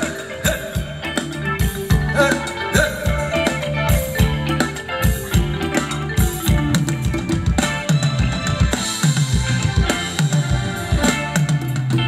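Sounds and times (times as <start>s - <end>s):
bass line: 0.0s - 12.0s
drum kit beat: 0.0s - 12.0s.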